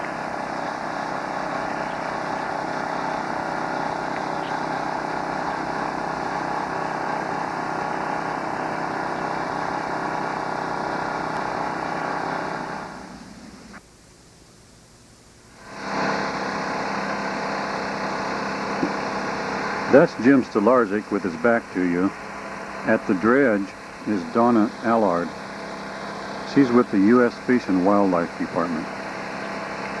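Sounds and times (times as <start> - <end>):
small gasoline engines running: 0.0 - 13.8, 15.6 - 30.0.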